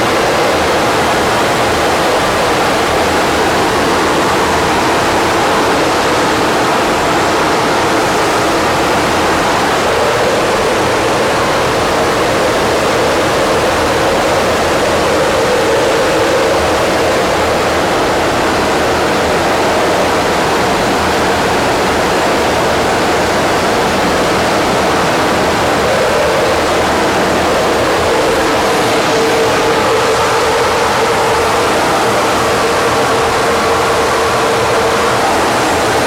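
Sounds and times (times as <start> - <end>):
loud rushing noise: 0.0 - 36.0.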